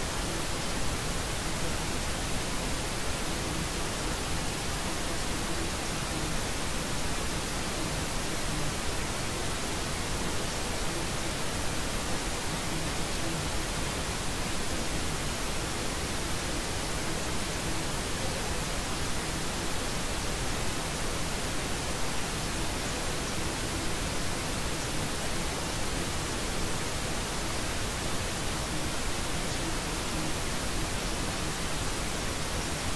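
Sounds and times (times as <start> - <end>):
white noise hiss: 0.0 - 32.9.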